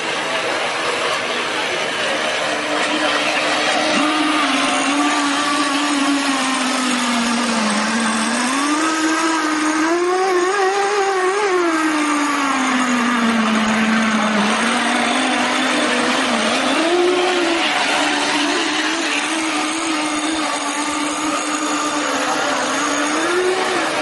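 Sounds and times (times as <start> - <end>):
model boat motor whine: 0.0 - 24.0
water rushing: 0.0 - 24.0.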